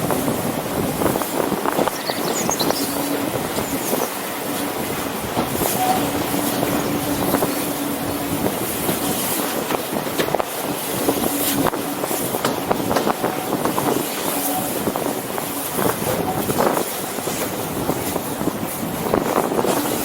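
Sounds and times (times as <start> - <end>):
train rumbling on track: 0.0 - 20.0
wheels clicking and knocking: 0.0 - 20.0.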